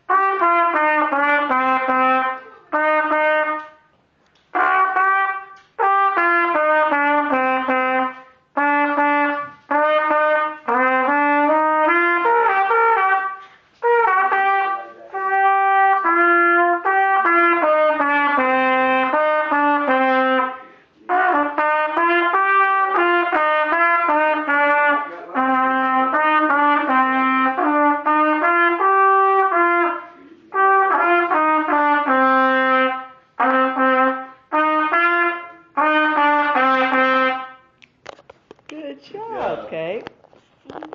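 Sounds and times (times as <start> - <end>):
solo trumpet melody: 0.0 - 3.9, 4.5 - 37.8.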